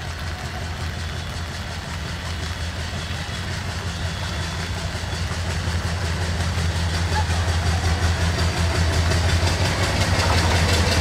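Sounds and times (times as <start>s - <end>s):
diesel locomotive engine humming: 0.0s - 11.0s.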